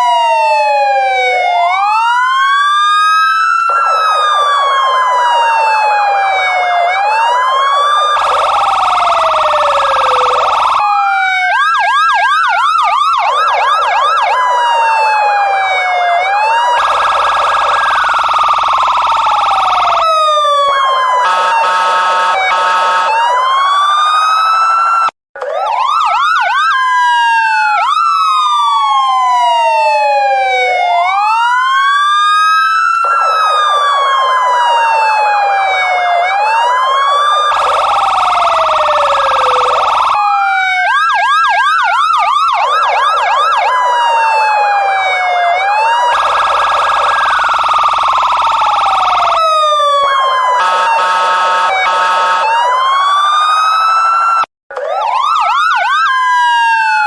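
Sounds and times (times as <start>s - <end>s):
police siren: 0.0s - 57.0s.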